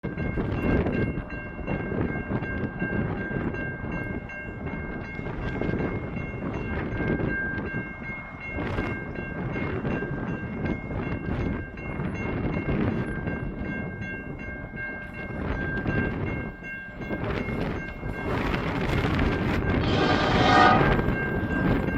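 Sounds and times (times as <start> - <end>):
level crossing warning bells: 0.1 - 21.9
diesel locomotive engines rumbling: 0.4 - 21.9.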